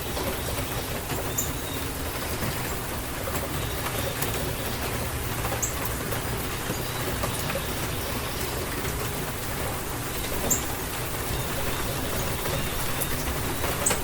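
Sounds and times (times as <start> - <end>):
sharp ticks of raindrops: 0.0 - 14.0
steady rain hissing: 0.0 - 14.0.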